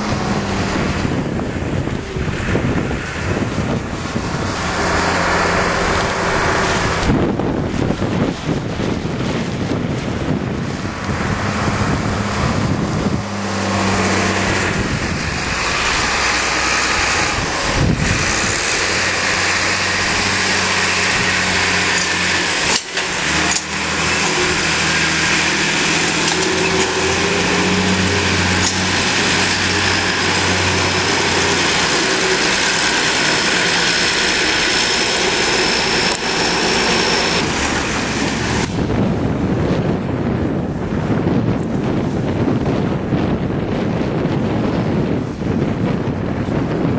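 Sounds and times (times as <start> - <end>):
tractor engines running under load: 0.0 - 46.9.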